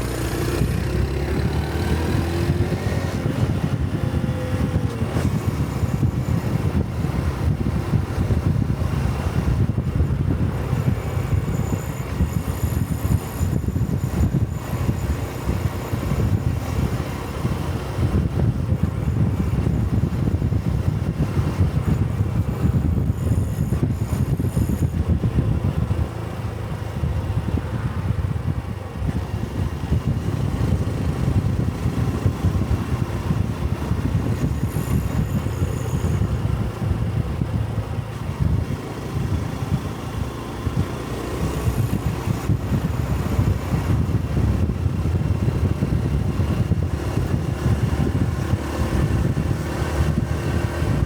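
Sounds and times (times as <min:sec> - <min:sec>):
motorcycle engine rumbling: 0:00.0 - 0:51.0.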